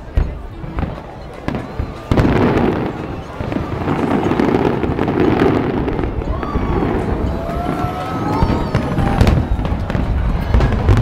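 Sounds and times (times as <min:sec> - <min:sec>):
fireworks booming and crackling: 0:00.0 - 0:11.0
fireworks whistling: 0:00.7 - 0:11.0.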